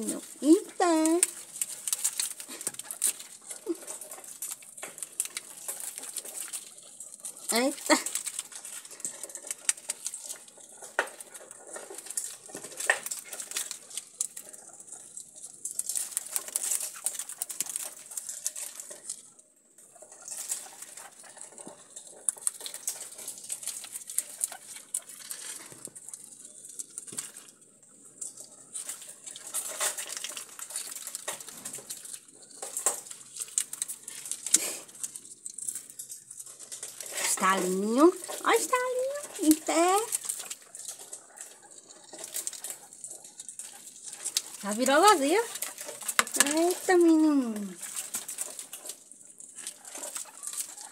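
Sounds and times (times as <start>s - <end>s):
guinea pigs chewing husks: 0.0s - 50.9s
paper and husks rustling: 0.0s - 50.9s.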